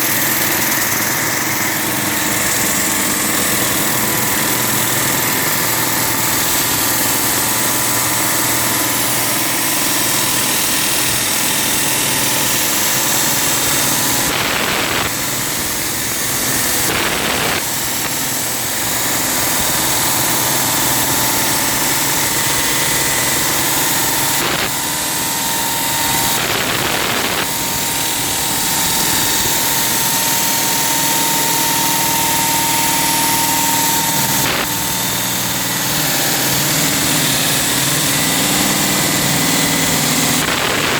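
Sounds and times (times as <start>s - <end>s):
concrete saw cutting concrete: 0.0s - 40.9s.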